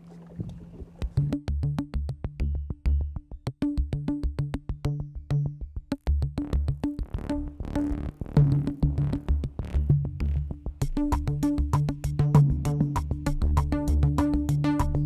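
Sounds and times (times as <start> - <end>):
electronic music with drum machine: 2.4 - 15.0.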